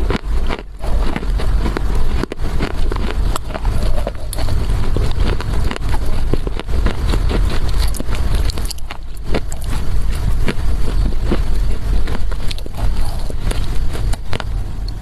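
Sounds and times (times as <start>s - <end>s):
chewing dry clay: 0.0s - 15.0s
low rumble: 0.0s - 15.0s.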